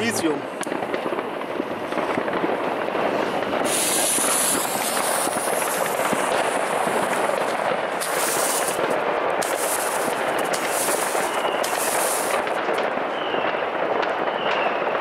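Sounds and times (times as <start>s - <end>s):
firework hiss: 0.0s - 13.1s
firework crackles and pops: 0.0s - 15.0s.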